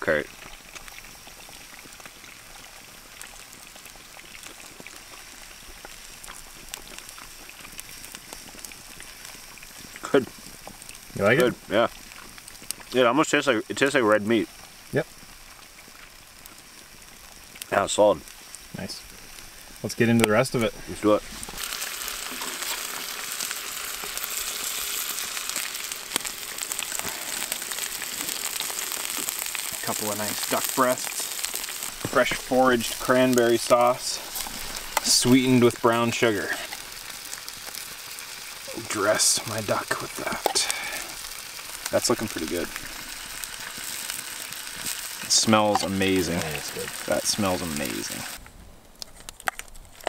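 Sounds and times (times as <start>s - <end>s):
meat sizzling in a frying pan: 0.0s - 48.4s
fat popping and crackling: 0.0s - 50.0s.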